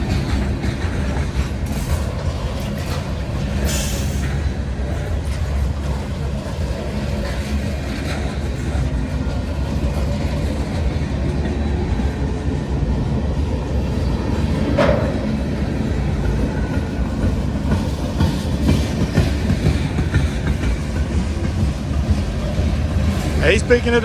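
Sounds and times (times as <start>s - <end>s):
freight train rumbling: 0.0s - 24.0s
wheels clacking over rail joints: 0.0s - 24.0s.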